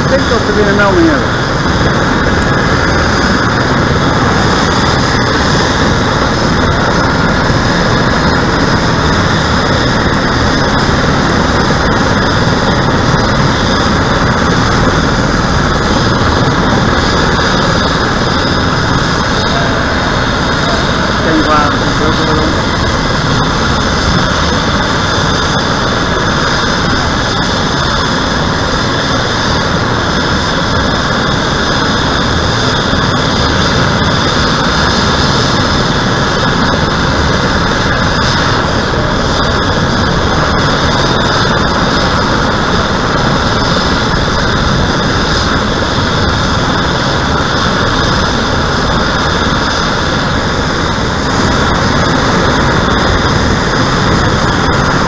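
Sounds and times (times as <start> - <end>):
helicopter engine and rotor rush: 0.0 - 55.0
helicopter turbine whine: 0.0 - 55.0.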